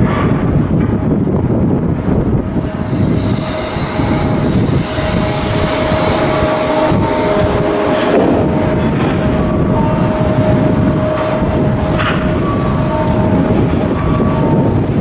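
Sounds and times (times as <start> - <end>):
constant hum: 0.0 - 15.0
shipyard machinery din: 0.0 - 15.0.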